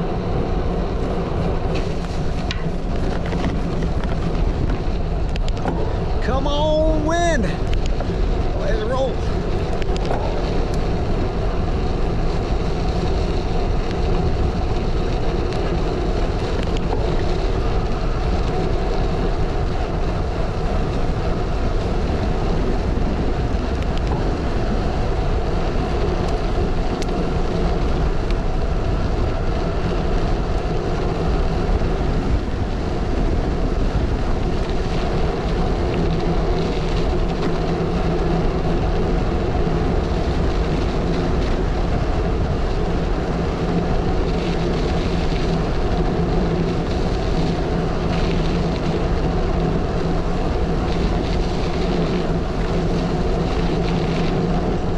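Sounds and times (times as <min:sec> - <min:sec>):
tyres rolling on dirt road: 0:00.0 - 0:54.9.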